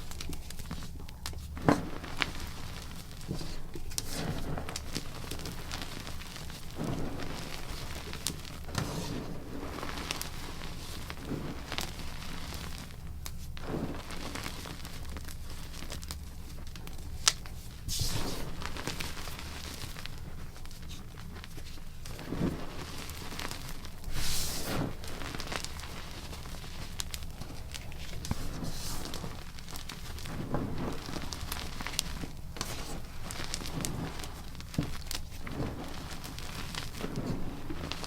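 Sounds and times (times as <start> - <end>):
chalk crunching and crackling: 0.0 - 38.0.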